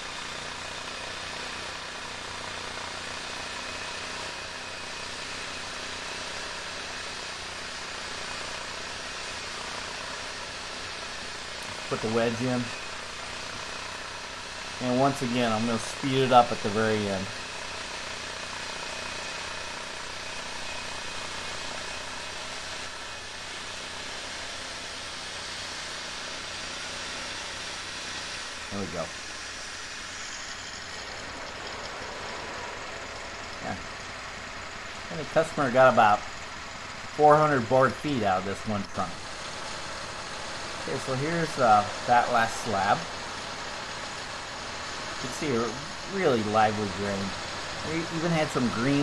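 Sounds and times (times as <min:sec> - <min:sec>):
engine running: 0:00.0 - 0:49.0
saw cutting through wood: 0:00.0 - 0:49.0.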